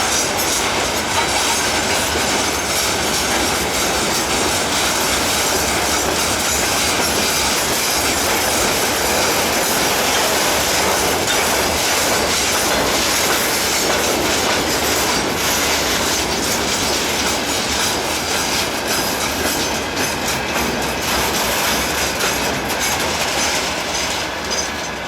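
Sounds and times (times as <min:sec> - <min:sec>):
freight train rolling past: 0:00.0 - 0:25.0
wheels clattering over rail joints: 0:00.0 - 0:25.0.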